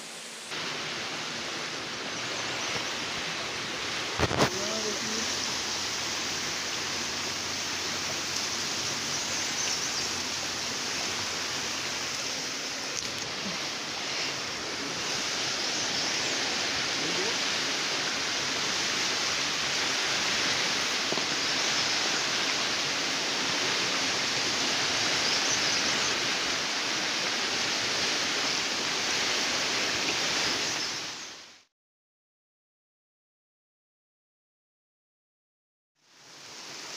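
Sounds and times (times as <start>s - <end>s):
river rushing: 0.0s - 31.6s, 36.1s - 36.9s.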